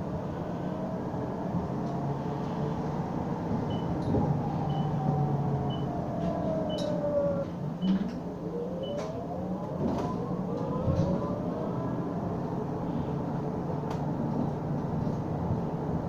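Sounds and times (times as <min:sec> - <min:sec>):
bus drivetrain whine: 0:00.0 - 0:16.0
bus running rumble: 0:00.0 - 0:16.0.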